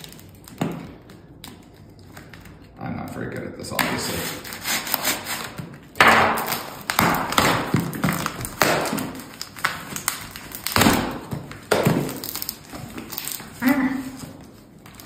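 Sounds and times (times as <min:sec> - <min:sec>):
packing tape tearing: 0:00.0 - 0:15.0.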